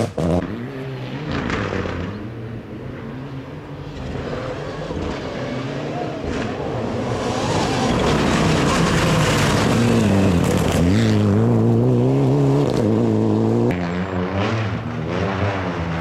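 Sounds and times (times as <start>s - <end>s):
distant rally car engine: 0.0s - 16.0s
rally car engine at full throttle: 0.0s - 16.0s.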